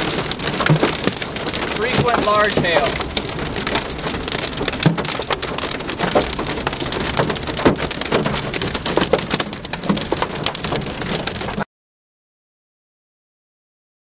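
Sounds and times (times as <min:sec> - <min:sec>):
hailstones pelting car roof: 0:00.0 - 0:11.6.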